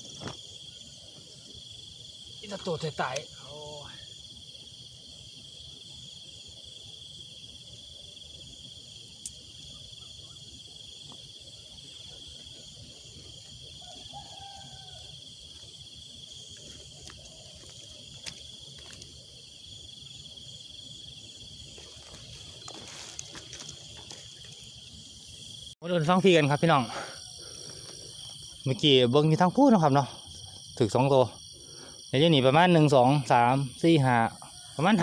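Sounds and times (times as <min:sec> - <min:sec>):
night insects trilling: 0:00.0 - 0:35.0.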